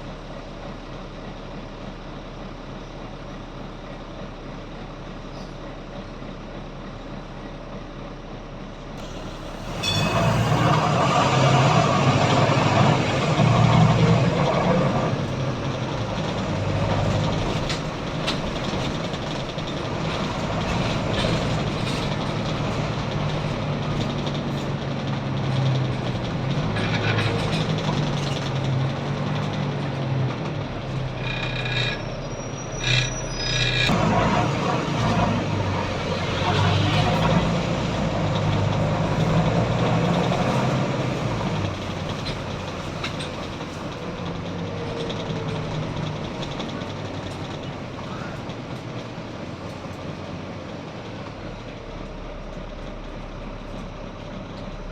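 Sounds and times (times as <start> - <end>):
bus diesel engine: 0.0 - 54.9.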